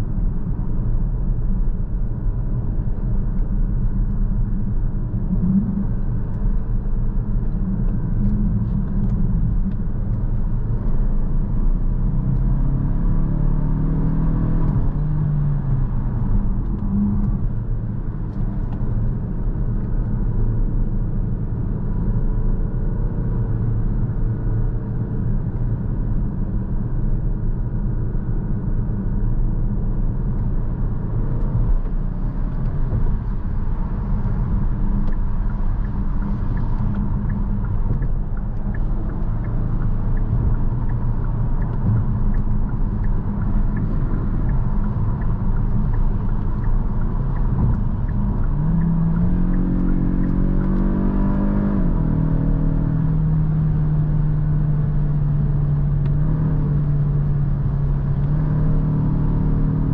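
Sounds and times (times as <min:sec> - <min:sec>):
car engine accelerating: 0:00.0 - 0:27.1, 0:27.8 - 0:59.9
tyre and road noise: 0:00.0 - 0:59.9.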